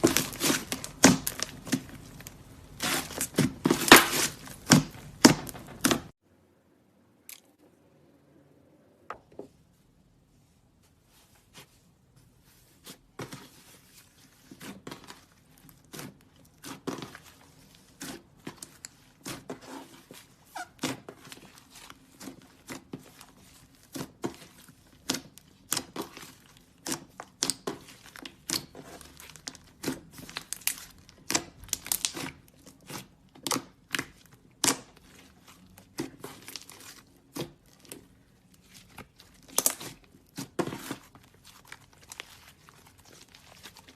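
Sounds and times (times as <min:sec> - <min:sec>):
clay slime crackling and popping: 0:00.0 - 0:06.2, 0:13.2 - 0:43.9.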